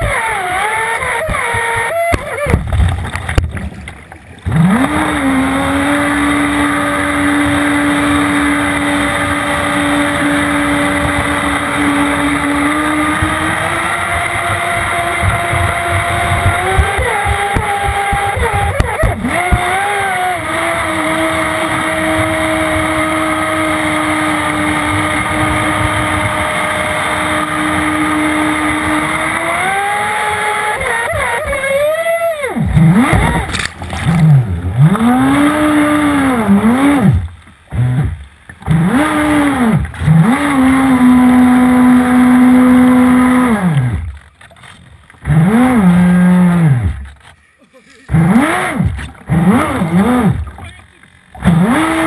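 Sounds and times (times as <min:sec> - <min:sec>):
water rushing: 0:00.0 - 0:47.2
boat motor running hard: 0:00.0 - 0:52.0.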